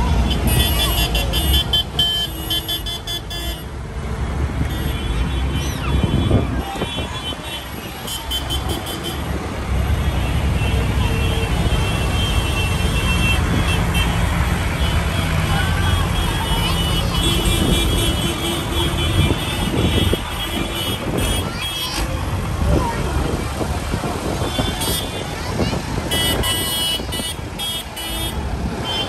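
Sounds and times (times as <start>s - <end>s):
tractor diesel engines rumbling: 0.0s - 29.0s.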